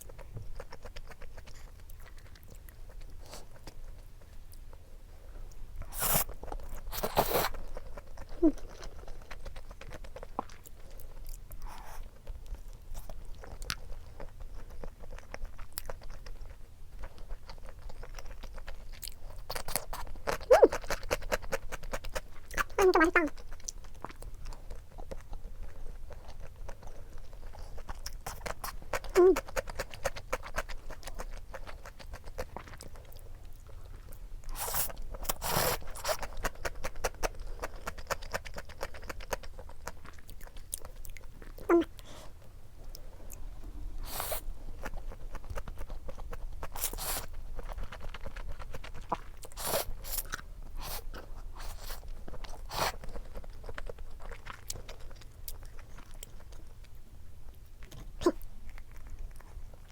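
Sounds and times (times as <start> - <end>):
close chewing with wet clicks: 0.0 - 4.8, 5.4 - 59.9.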